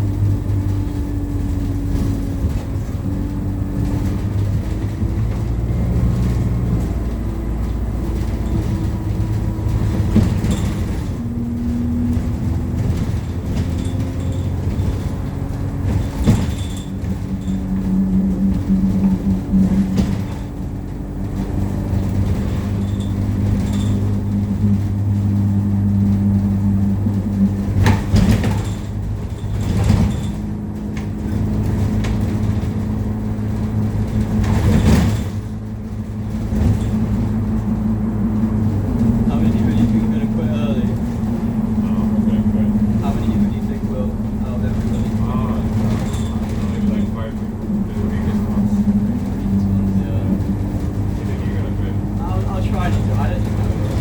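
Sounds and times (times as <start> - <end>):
bus engine and road drone: 0.0 - 54.0
interior rattles: 0.0 - 54.0.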